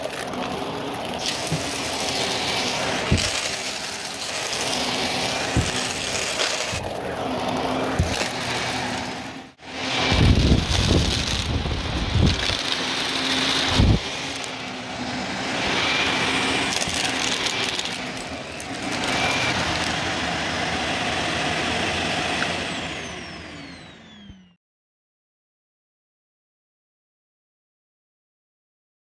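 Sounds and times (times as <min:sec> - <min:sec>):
vacuum cleaner running: 0:00.0 - 0:24.6
vacuum motor winding down: 0:00.0 - 0:24.6.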